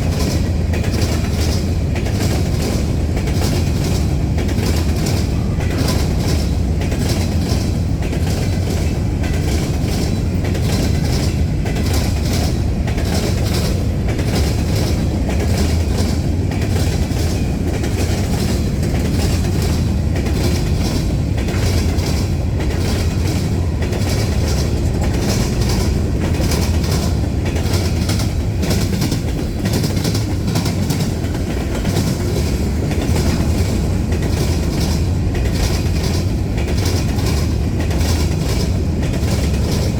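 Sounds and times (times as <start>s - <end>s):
freight train rumbling past: 0.0s - 39.9s
wheels clicking over rail joints: 0.0s - 39.9s.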